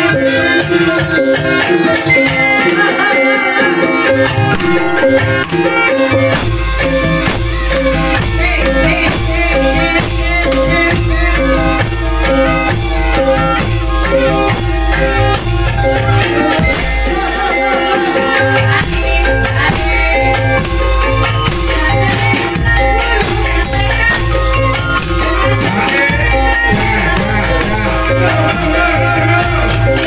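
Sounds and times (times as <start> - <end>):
gamelan pitched tones: 0.0 - 30.0
steady drum beat: 4.2 - 30.0.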